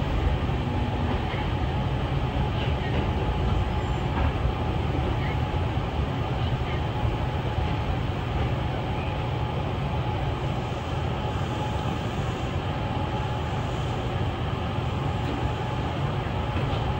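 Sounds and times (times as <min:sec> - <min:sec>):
electric train rumbling: 0:00.0 - 0:16.9.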